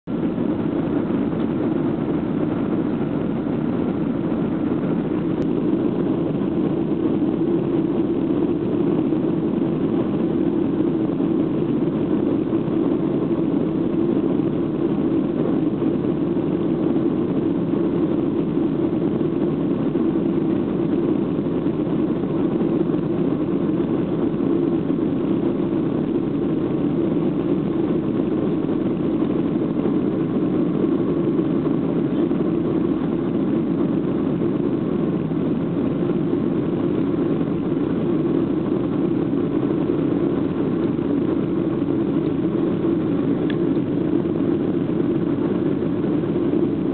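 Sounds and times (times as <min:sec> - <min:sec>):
jet engines roaring in cabin: 0:00.0 - 0:46.9.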